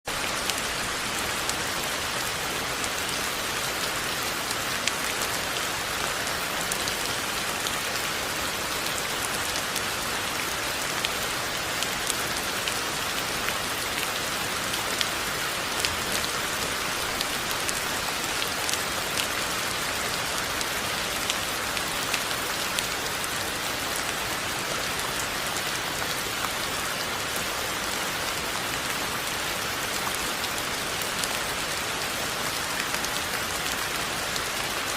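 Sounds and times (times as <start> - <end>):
rain drops ticking: 0.1 - 34.9
steady rain hiss: 0.1 - 34.9.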